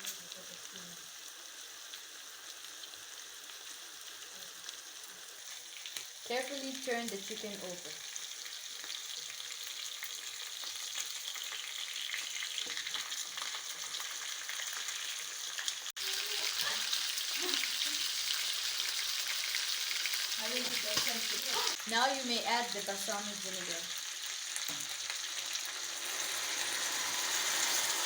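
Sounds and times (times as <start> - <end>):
meat sizzling in a pan: 0.0 - 28.0.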